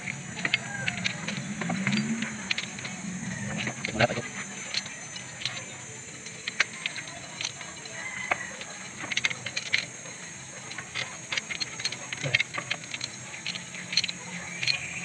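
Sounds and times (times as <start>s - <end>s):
high-pitched hum: 0.0s - 15.0s
metallic tool clicks and clinks: 0.0s - 15.0s.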